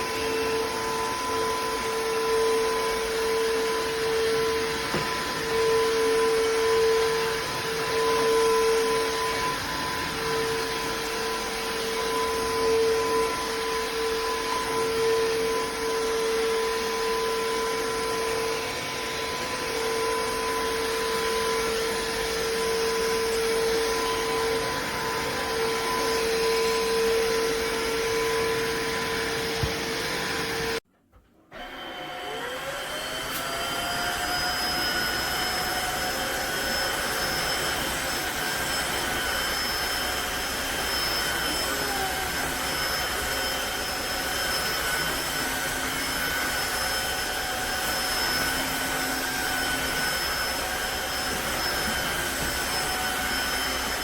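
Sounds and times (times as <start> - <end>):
floor vacuum whining: 0.0 - 54.0.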